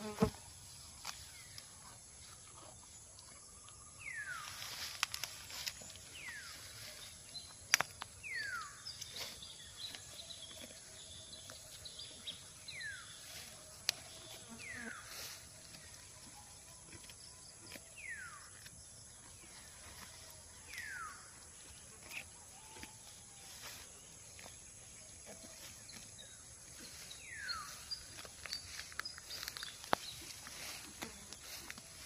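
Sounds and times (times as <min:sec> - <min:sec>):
high insect hum: 0:00.0 - 0:32.0.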